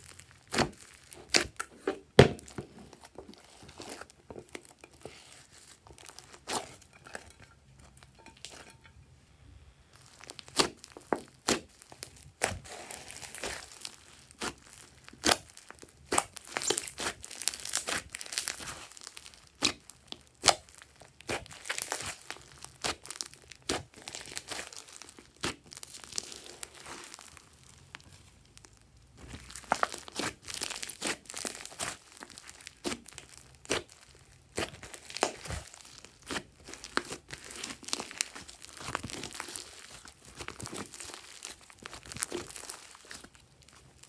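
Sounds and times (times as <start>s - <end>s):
hands squishing slime: 0.0s - 7.3s, 9.9s - 44.0s.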